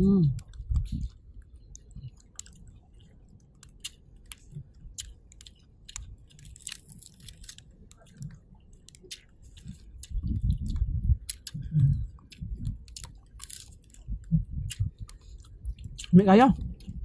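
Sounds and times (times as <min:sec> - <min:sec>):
low steady rumble: 0:00.0 - 0:17.0
person chewing food: 0:00.0 - 0:17.0.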